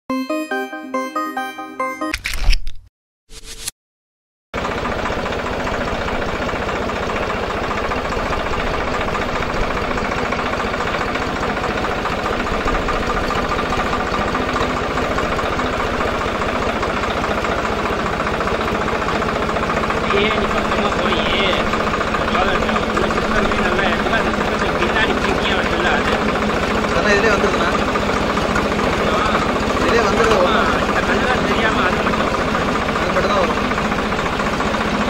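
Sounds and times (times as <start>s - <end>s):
tractor diesel engine running: 4.6s - 35.0s.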